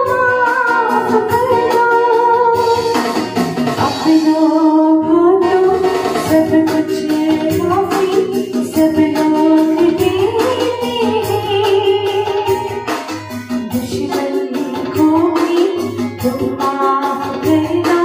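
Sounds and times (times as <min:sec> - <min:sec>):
instrumental accompaniment with percussion: 0:00.0 - 0:18.0
woman singing into microphone: 0:00.0 - 0:18.0.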